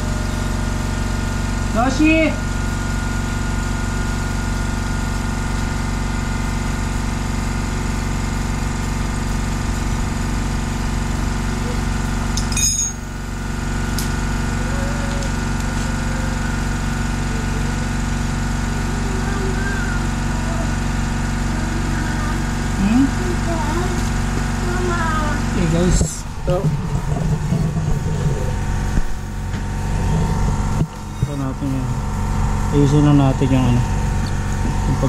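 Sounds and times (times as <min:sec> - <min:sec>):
air compressor humming: 0:00.0 - 0:35.0.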